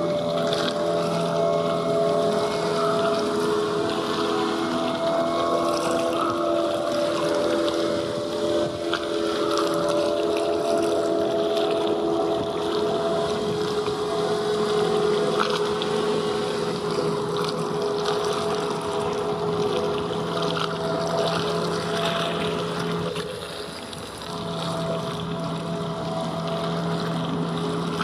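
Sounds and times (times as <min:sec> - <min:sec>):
boat engine droning: 0:00.0 - 0:28.0
low hum: 0:00.0 - 0:28.0.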